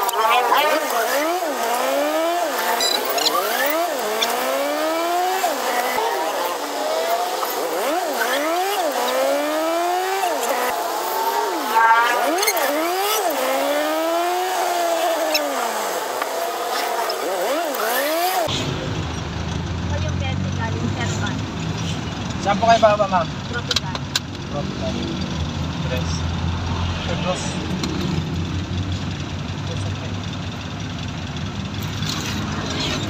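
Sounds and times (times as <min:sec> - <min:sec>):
road noise: 0:00.0 - 0:33.0
vehicle engine whine: 0:00.0 - 0:33.0.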